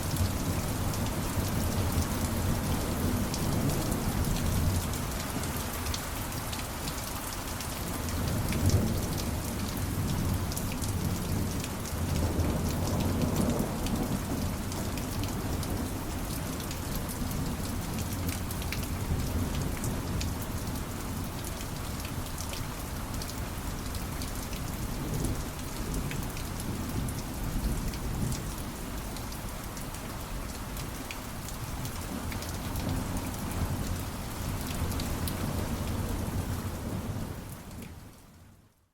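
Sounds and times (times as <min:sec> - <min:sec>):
rain pattering: 0:00.0 - 0:38.8.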